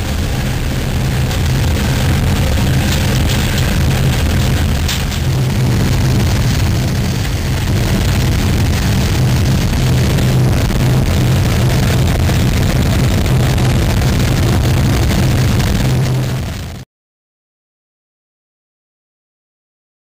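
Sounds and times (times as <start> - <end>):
burner flame roaring: 0.0 - 16.8
low hum: 0.0 - 16.8.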